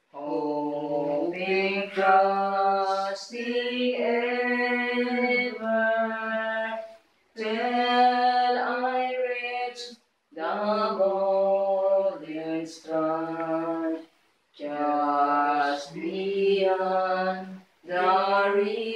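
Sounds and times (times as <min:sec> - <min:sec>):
person singing chant-like melody: 0:00.0 - 0:18.9.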